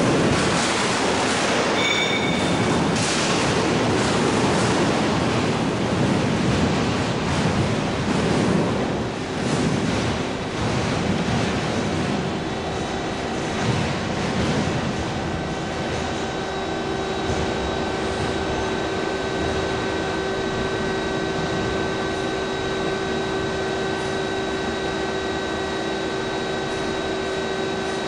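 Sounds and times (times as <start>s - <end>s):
machine hum with constant tones: 0.0s - 28.0s.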